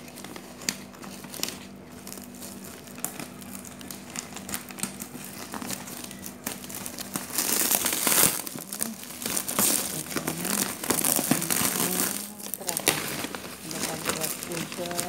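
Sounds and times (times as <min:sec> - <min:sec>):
plastic wrap crinkling and snapping: 0:00.0 - 0:15.0.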